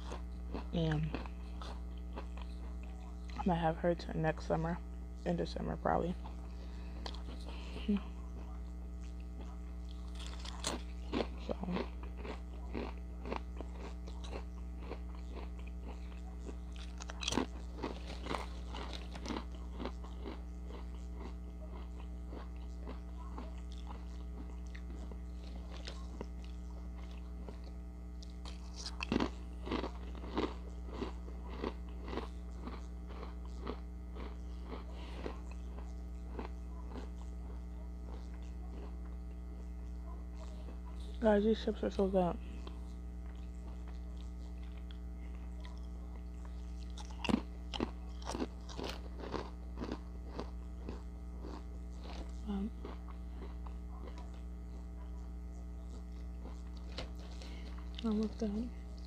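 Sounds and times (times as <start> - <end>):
chips crunching: 0.0 - 3.4, 8.4 - 39.3, 42.6 - 54.4, 56.0 - 59.0
steady low hum: 0.0 - 59.0.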